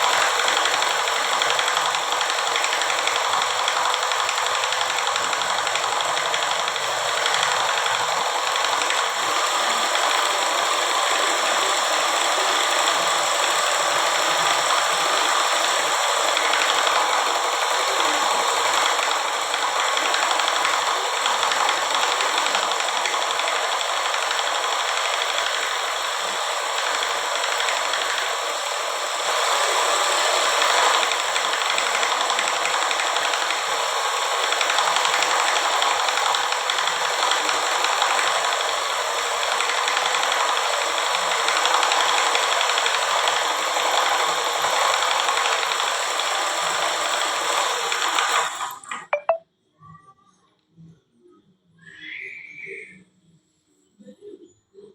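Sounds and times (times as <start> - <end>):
scroll saw running: 0.0 - 48.8.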